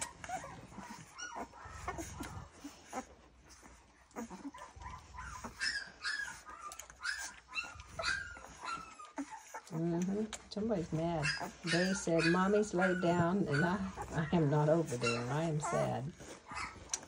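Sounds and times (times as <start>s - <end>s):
puppies whimpering and squeaking: 0.0s - 17.0s.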